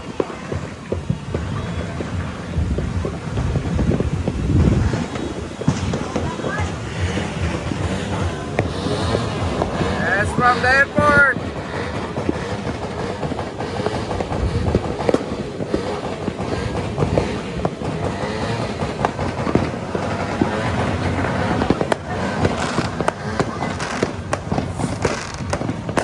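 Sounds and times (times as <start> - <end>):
firecracker sharp cracks: 0.0 - 26.0
fireworks bangs and crackles: 0.0 - 26.0.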